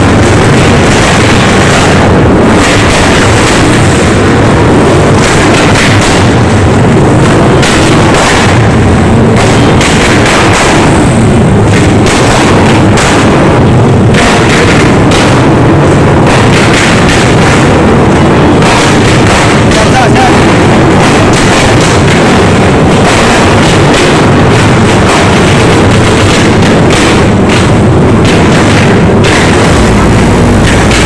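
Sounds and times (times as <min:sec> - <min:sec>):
distorted dirt bike engine: 0:00.0 - 0:31.0.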